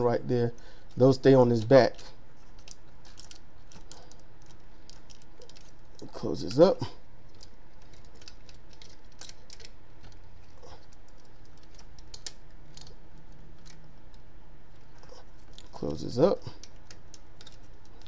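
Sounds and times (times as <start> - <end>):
plastic toy parts clicking: 1.6 - 18.0.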